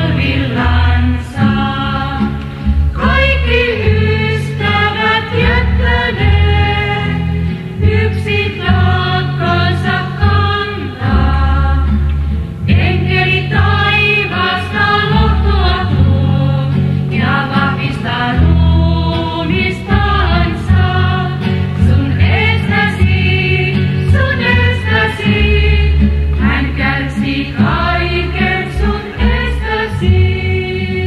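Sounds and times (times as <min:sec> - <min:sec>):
choir singing: 0:00.0 - 0:31.0
low bass accompaniment: 0:00.0 - 0:31.0.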